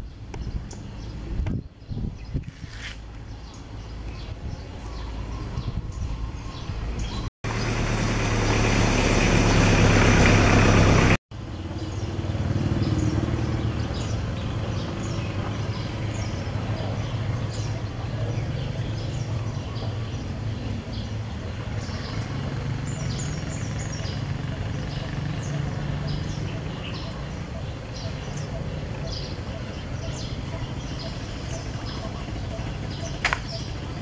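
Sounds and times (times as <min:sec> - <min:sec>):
faint steady engine hum: 0:00.0 - 0:34.0
engine running close by: 0:03.0 - 0:34.0.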